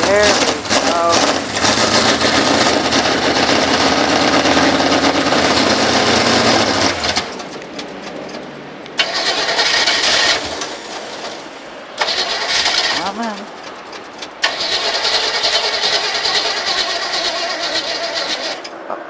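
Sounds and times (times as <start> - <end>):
engine cranking: 0.0 - 19.0.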